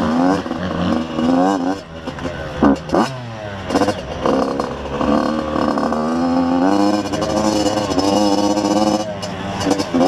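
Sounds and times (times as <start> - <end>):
two-stroke motorbike engine revving: 0.0 - 10.0.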